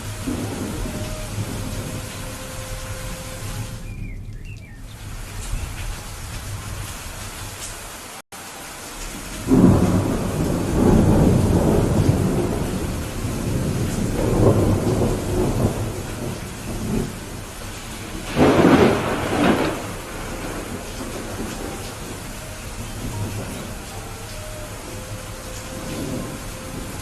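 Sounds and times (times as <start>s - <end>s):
thunder rumbling: 0.0s - 7.6s, 9.0s - 27.0s
steady rain: 0.0s - 27.0s.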